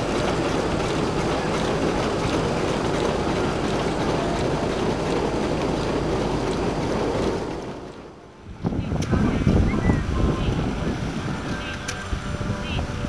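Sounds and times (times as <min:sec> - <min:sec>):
model steam engine running: 0:00.0 - 0:13.0.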